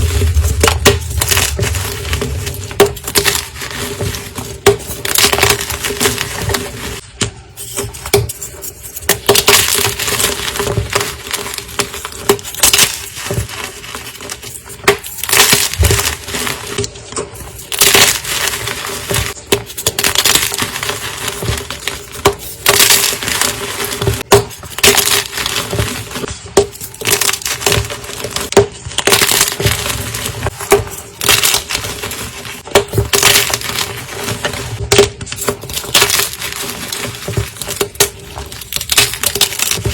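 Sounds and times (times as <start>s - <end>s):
chalk being crushed: 0.0s - 7.0s, 7.6s - 39.9s.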